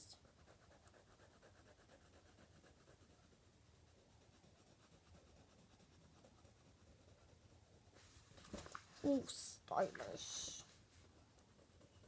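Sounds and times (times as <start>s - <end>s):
colored pencil scratching on paper: 0.0s - 8.4s, 9.0s - 12.0s.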